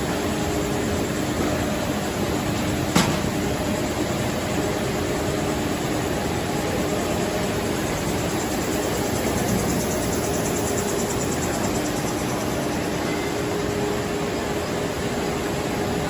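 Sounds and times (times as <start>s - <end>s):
industrial machinery humming: 0.0s - 16.0s.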